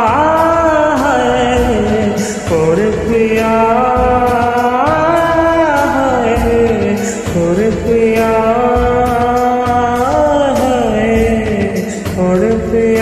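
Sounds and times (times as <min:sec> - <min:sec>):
karaoke backing track with drums: 0:00.0 - 0:13.0.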